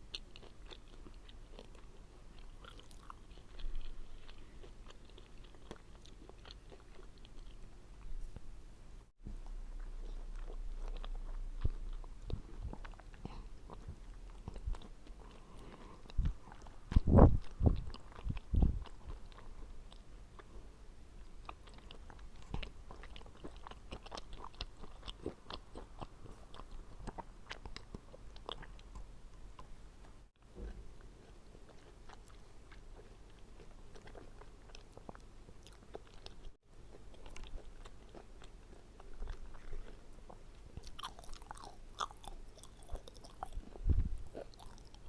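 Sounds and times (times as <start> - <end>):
juicy biting and chewing: 0.0 - 7.8, 9.3 - 20.5, 21.2 - 45.0.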